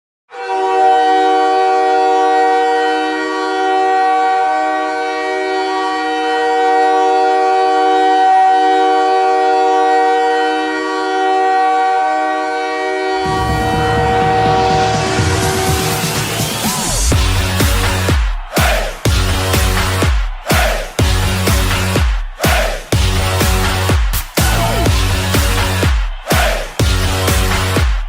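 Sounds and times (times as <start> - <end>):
goal horn blast: 0.3 - 28.0.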